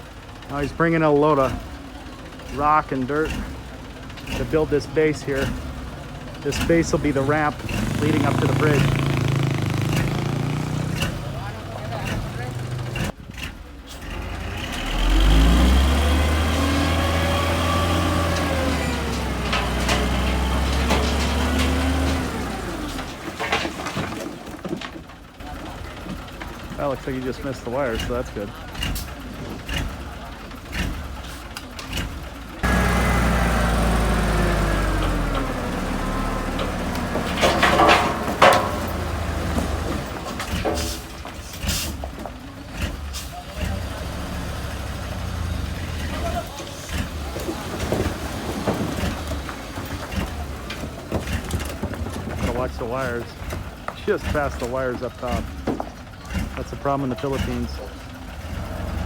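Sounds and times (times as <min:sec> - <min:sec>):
diesel truck engine: 0:00.0 - 0:59.0.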